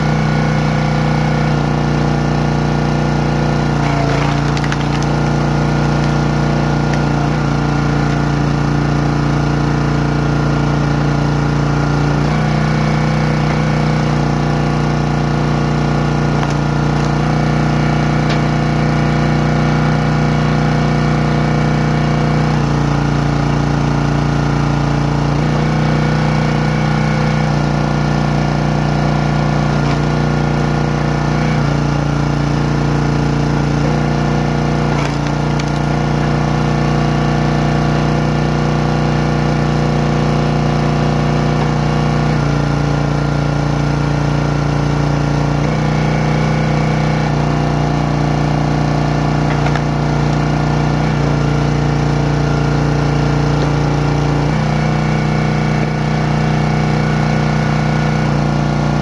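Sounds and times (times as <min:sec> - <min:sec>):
log splitter engine running: 0:00.0 - 0:59.0.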